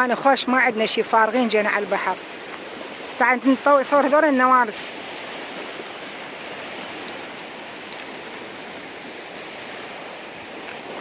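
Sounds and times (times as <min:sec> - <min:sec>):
sea water washing on shore: 0:00.0 - 0:11.0.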